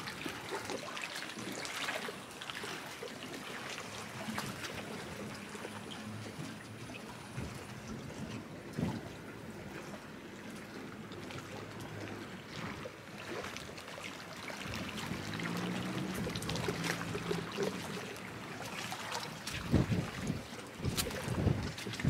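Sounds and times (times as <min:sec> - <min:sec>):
light splashes: 0:00.0 - 0:22.0
small waves lapping: 0:00.0 - 0:22.0.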